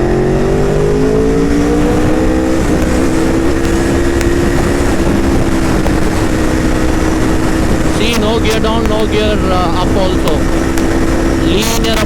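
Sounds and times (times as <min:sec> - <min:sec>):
heavy wind rush: 0:00.0 - 0:12.0.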